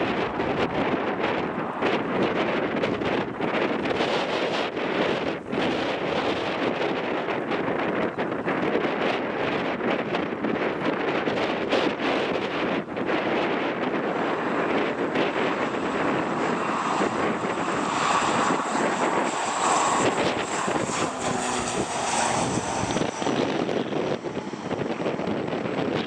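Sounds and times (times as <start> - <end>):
high turbine whine: 0.0 - 26.0
propeller drone: 0.0 - 26.0.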